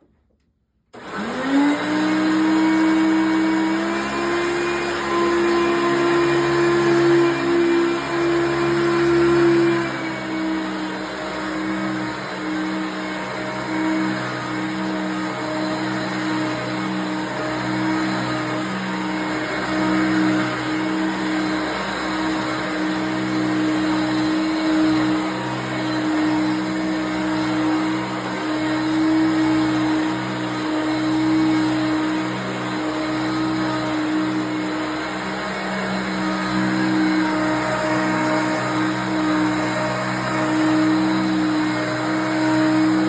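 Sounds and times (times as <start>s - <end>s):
vacuum cleaner motor whine: 0.9s - 43.0s.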